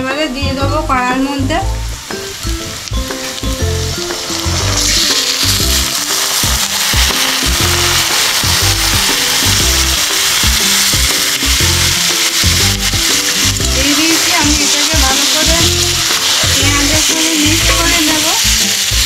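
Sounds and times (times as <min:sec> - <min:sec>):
background music: 0:00.0 - 0:19.0
meat sizzling in hot oil: 0:01.3 - 0:19.0.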